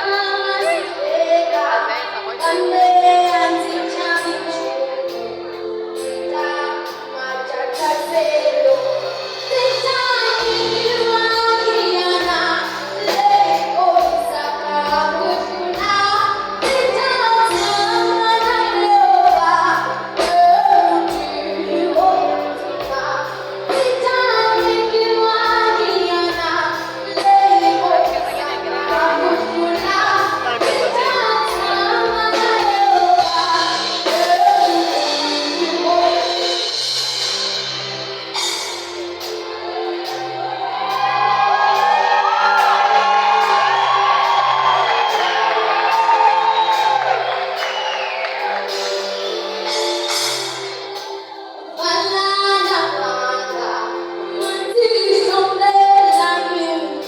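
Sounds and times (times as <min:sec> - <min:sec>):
backing track with steady beat: 0:00.0 - 0:57.0.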